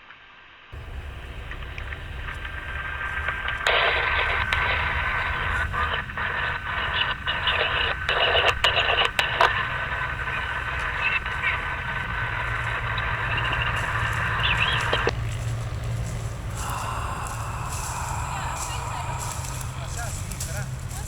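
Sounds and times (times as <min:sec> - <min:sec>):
hissing crackle static: 0:00.8 - 0:21.0
low rumble: 0:00.8 - 0:21.0
sharp clicks: 0:00.8 - 0:21.0
steady whistling tone: 0:00.8 - 0:21.0.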